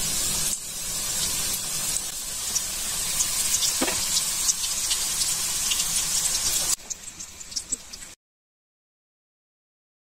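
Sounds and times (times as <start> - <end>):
food deep-frying in oil: 0.0 - 8.2.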